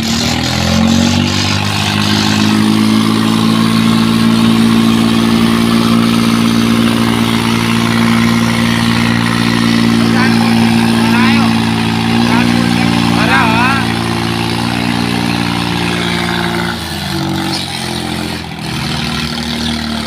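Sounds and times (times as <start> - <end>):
tractor diesel engines revving: 0.0 - 20.0.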